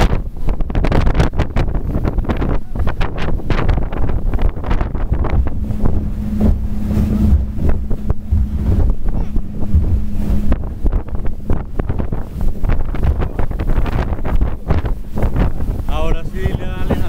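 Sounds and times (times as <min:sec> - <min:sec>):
speedboat engine drone: 0:00.0 - 0:17.0
wind buffeting microphone: 0:00.0 - 0:17.0.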